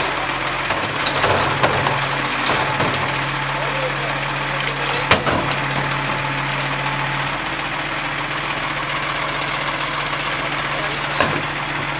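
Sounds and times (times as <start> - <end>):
garbage truck engine idling: 0.0 - 11.9.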